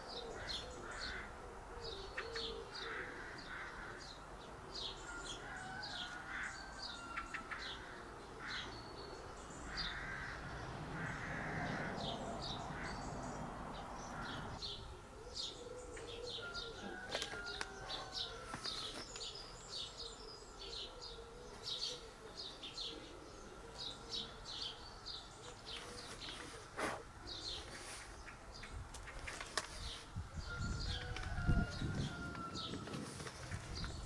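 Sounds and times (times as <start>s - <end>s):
birds chirping: 0.0s - 34.0s
harsh bird calls: 0.0s - 34.0s.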